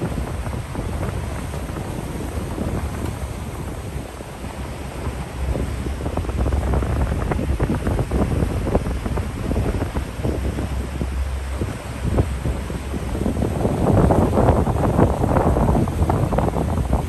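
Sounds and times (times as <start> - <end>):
water splashing: 0.0 - 17.0
wind buffeting microphone: 0.0 - 17.0.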